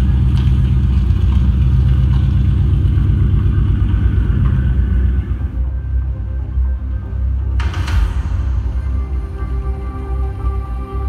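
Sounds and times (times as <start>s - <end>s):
deep rumble over loudspeakers: 0.0s - 11.0s.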